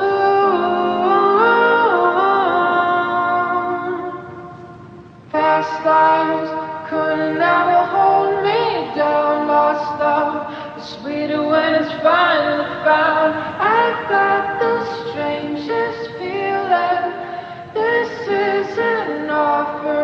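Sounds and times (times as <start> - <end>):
woman singing long held notes: 0.0 - 20.0.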